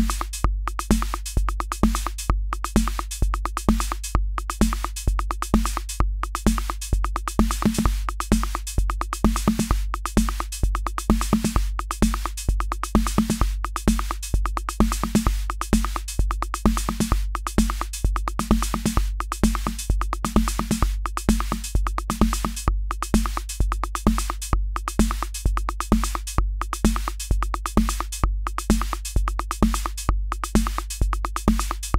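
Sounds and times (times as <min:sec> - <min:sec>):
fast hi-hat ticks: 0:00.0 - 0:31.9
kick drum: 0:00.0 - 0:31.9.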